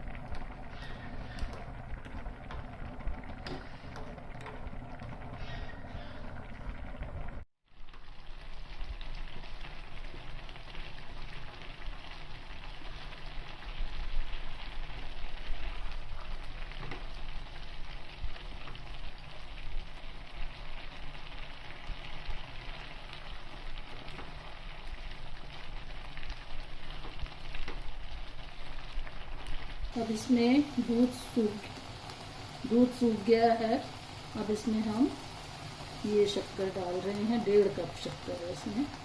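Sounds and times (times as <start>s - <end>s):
sweet mixture bubbling in a pan: 0.0s - 39.0s.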